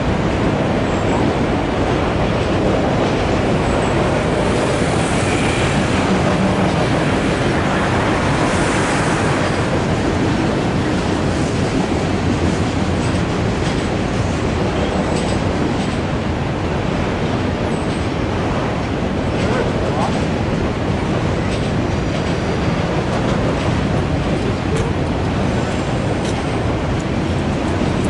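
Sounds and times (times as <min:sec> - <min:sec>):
steel train wheels on rails: 0:00.0 - 0:28.0.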